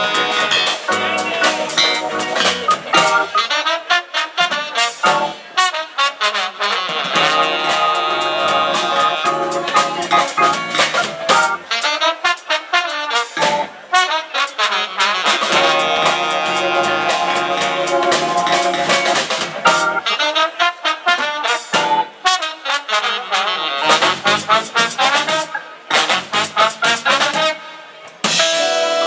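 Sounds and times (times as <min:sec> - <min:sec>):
drums: 0:00.0 - 0:29.0
funk band playing: 0:00.0 - 0:29.0
trombone and saxophone: 0:00.0 - 0:29.0.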